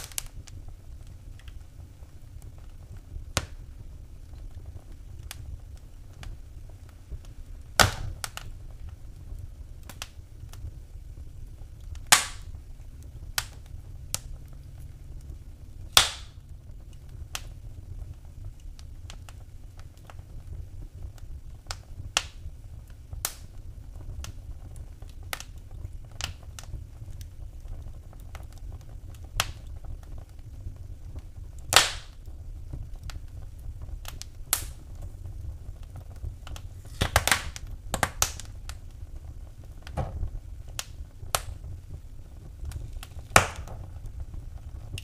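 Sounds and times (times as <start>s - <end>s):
loud fire pops: 0.0s - 45.0s
low steady rumble: 0.0s - 45.0s
wood fire crackling: 0.0s - 45.0s.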